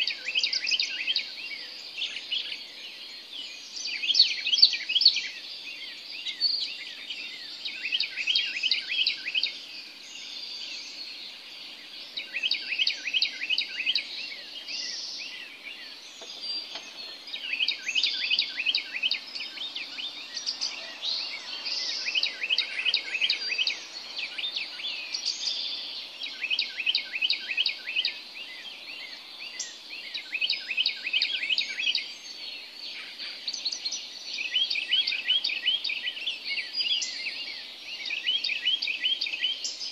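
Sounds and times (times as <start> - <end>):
birds calling high-pitched notes: 0.0 - 39.9
faint steady background noise: 0.0 - 39.9.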